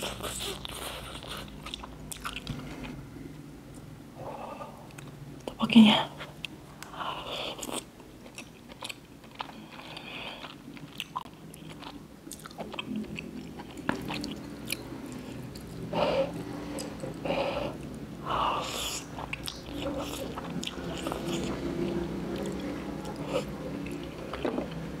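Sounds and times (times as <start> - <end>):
close chewing mouth sounds: 0.0 - 3.0, 6.4 - 18.0, 18.6 - 25.0.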